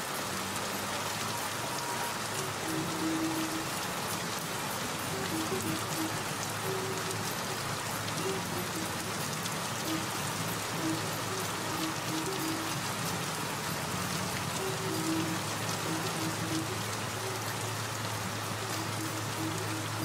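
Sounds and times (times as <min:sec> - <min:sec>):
rain on hard surface: 0:00.0 - 0:20.0
soft background music: 0:00.0 - 0:20.0.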